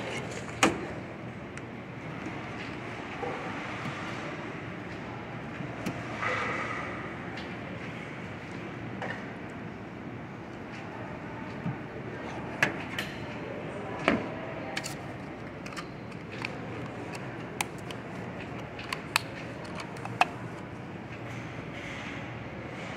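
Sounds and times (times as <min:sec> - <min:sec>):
steady background noise: 0:00.0 - 0:22.9.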